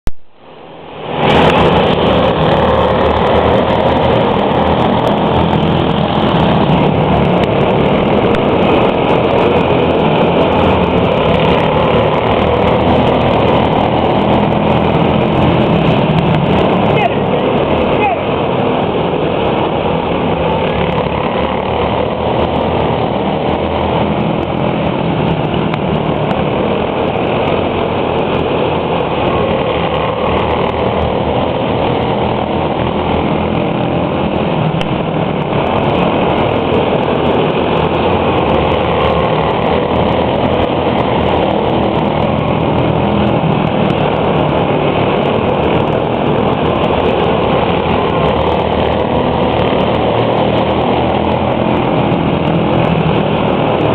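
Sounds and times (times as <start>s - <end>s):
small race car engines buzzing: 0.9s - 53.9s.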